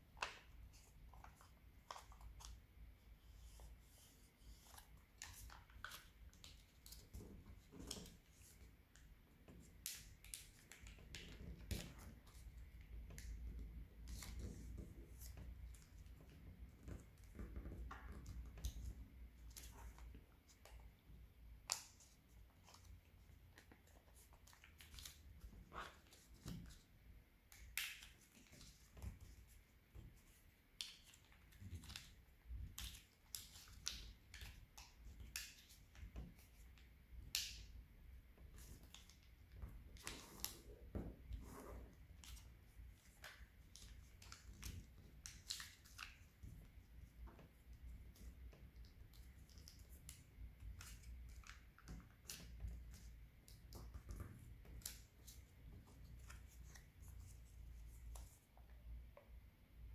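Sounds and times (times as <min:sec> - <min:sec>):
paper being folded and creased: 0:00.2 - 0:09.0, 0:09.6 - 0:20.8, 0:21.7 - 0:26.9, 0:27.5 - 0:37.6, 0:38.5 - 0:58.7.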